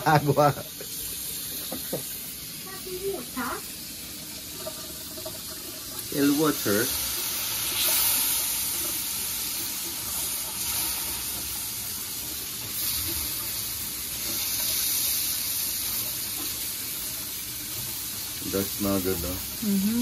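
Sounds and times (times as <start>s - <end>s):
seasoning sizzling in a pot: 0.0s - 20.0s.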